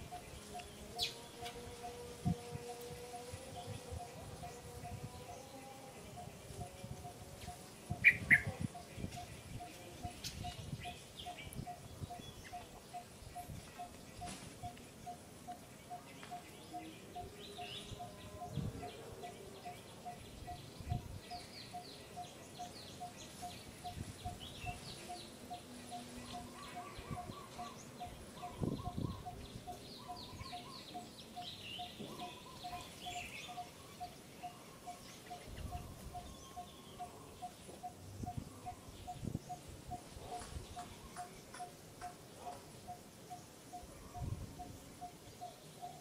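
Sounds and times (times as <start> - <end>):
birds chirping and twittering: 0.0 - 46.0.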